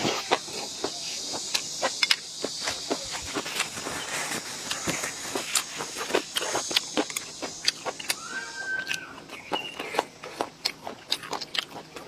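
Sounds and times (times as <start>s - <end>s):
wet chewing and crunching: 0.0s - 12.0s.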